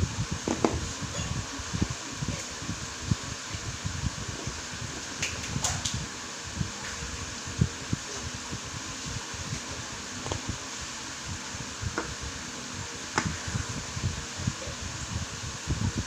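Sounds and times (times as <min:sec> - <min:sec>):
steady fan-like hiss: 0:00.0 - 0:16.0.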